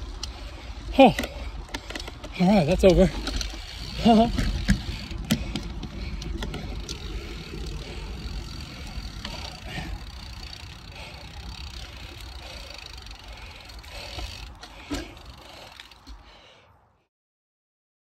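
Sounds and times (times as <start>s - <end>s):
bike tyres rolling on dirt: 0.0s - 16.6s
bike clicks and rattles: 0.0s - 16.7s.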